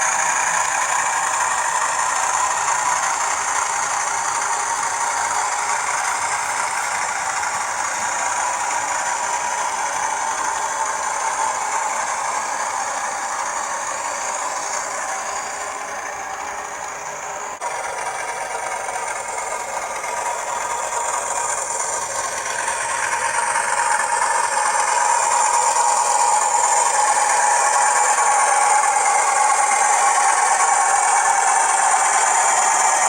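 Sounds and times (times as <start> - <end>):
thin diesel engine sound from speaker: 0.0 - 33.0
wheels rattling on track: 0.0 - 33.0.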